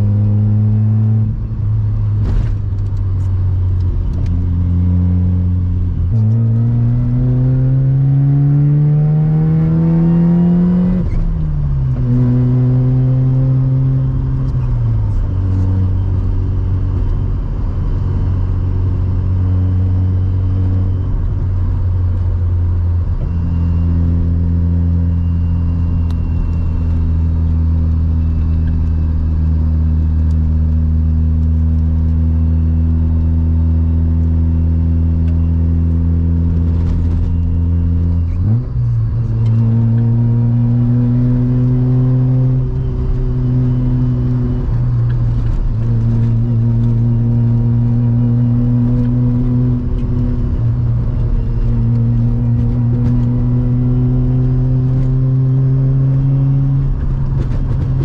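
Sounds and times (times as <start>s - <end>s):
sports car engine: 0.0s - 58.0s.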